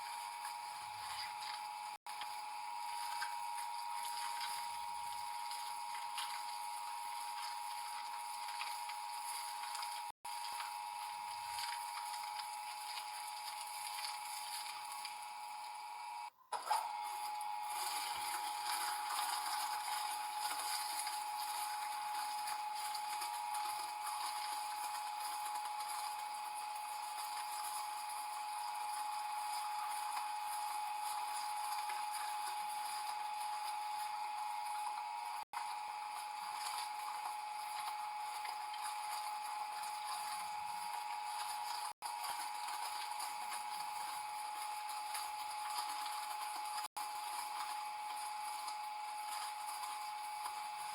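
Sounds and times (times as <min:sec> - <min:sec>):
machine high-pitched hum: 0:00.0 - 0:50.9.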